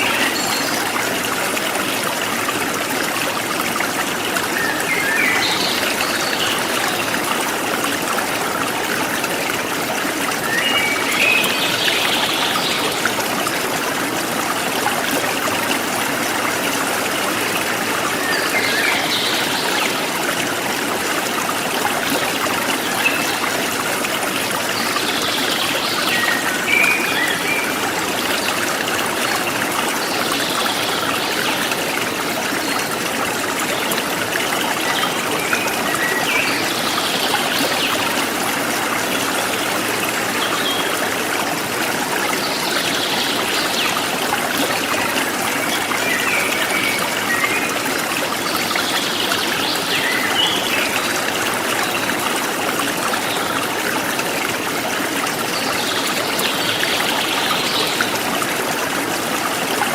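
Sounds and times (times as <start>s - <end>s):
forest stream running: 0.0s - 59.9s.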